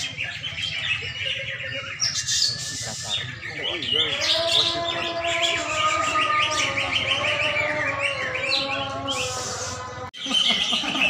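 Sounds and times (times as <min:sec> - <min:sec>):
birds singing fast chirps: 0:00.0 - 0:11.0.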